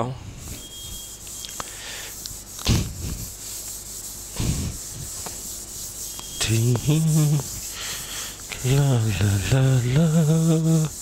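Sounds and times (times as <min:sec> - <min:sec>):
eraser wiping writing board: 0:00.6 - 0:11.0.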